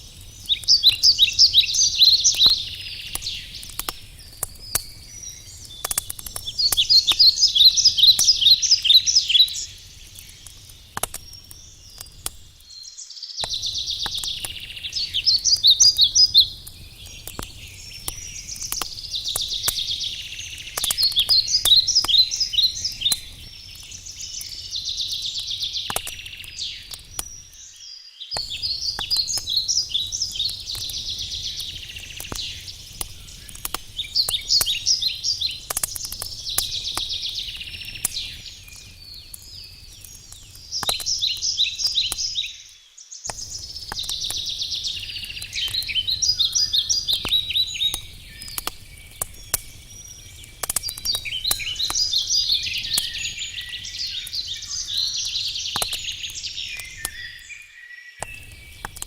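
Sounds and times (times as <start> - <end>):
campfire crackling: 0.0 - 12.8, 13.4 - 57.6, 58.2 - 59.0
songbird singing: 0.0 - 59.0.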